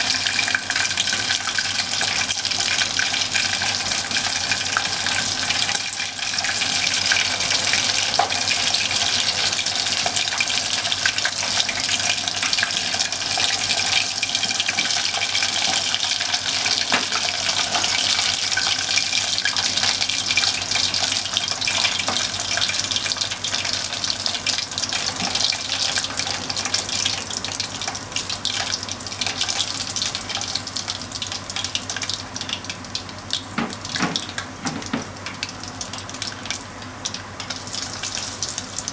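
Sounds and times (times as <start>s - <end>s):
meat deep-frying in oil: 0.0s - 38.9s.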